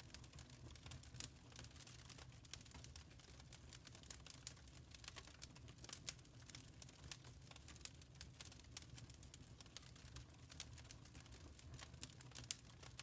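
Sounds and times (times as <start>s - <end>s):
faint wood fire crackling: 0.0s - 13.0s.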